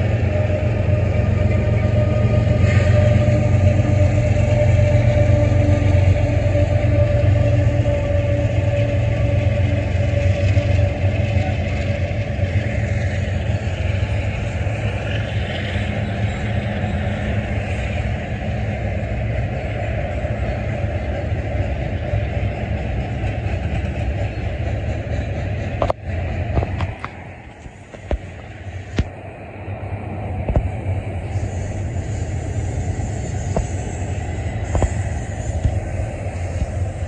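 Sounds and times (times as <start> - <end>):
low engine hum: 0.0 - 37.0
train wheels rumbling on rail: 0.0 - 37.0.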